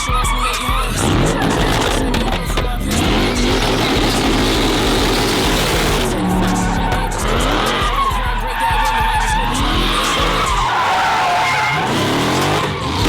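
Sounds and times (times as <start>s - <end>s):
car engines revving: 0.0s - 13.0s
tyres squealing: 0.0s - 13.0s.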